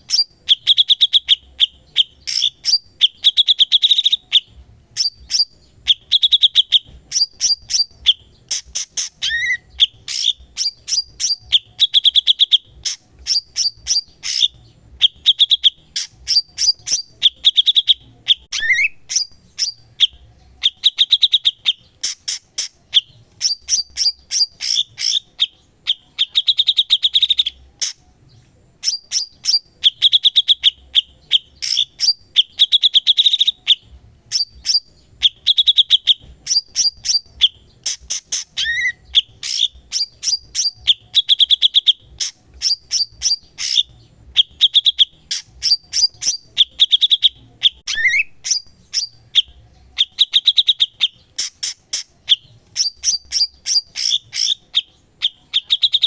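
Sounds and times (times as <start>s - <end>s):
songbird trilling: 0.0s - 56.0s.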